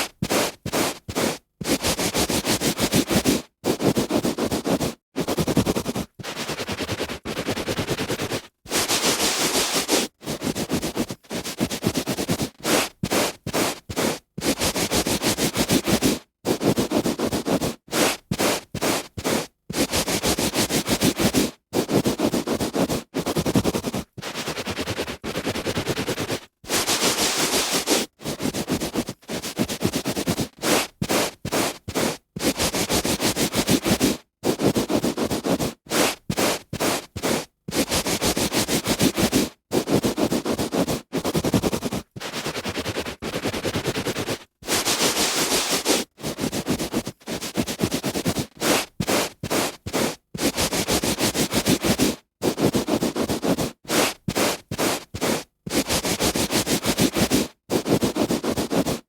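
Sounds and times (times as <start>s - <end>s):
hand rubbing on carpet: 0.0s - 59.0s.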